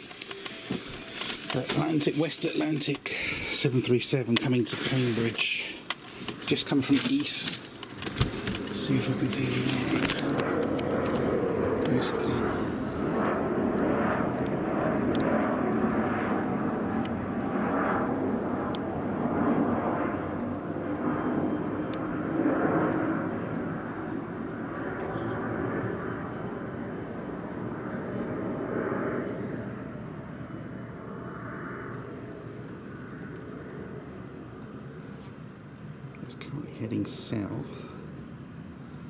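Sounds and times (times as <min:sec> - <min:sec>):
jet airliner flying overhead: 0:00.0 - 0:39.0.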